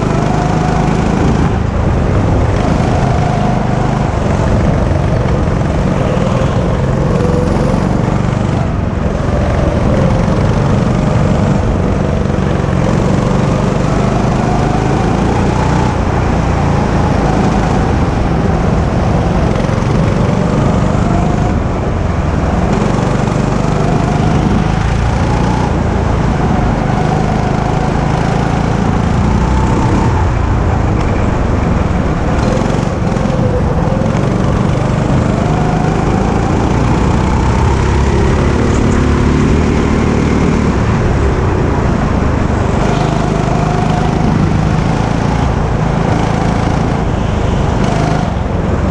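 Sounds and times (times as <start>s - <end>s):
go-kart engine revving: 0.0s - 48.9s.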